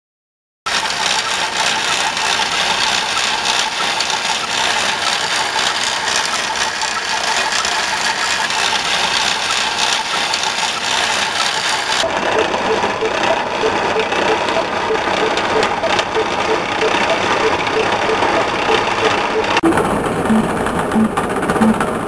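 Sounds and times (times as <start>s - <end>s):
machine rattling: 0.7s - 22.0s.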